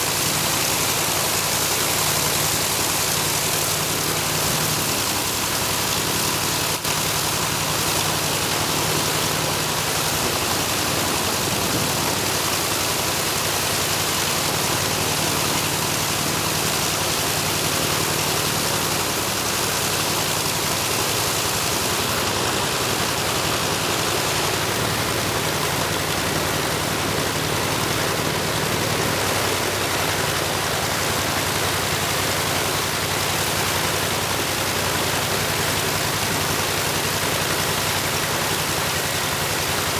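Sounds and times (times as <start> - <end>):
radial aircraft engine running: 0.0 - 16.8, 17.4 - 37.2.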